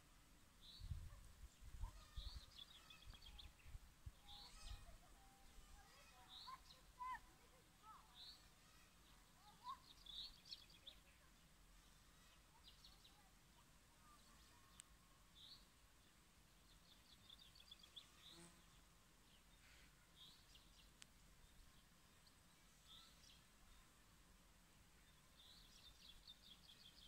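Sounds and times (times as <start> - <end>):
small birds chirping: 0.6 - 24.0, 24.8 - 27.0.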